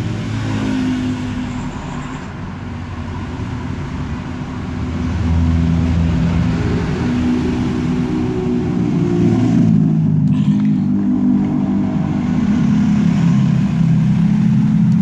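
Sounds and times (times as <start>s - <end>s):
road traffic noise: 0.0s - 15.0s
vehicle engine running: 2.6s - 15.0s.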